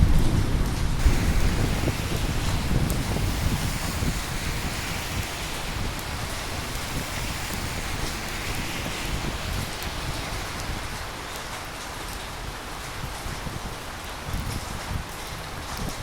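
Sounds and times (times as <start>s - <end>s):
thunder rumbling: 0.0s - 13.2s
steady rain falling: 0.0s - 16.0s.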